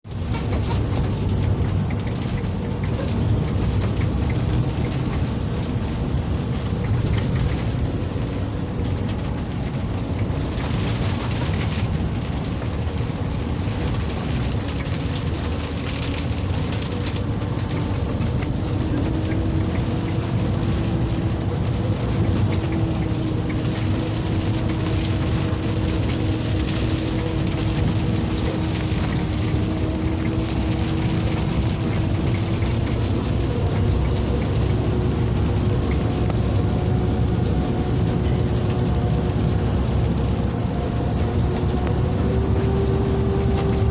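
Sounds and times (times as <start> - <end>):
machinery engine running: 0.0 - 43.9
rain falling: 0.0 - 43.9.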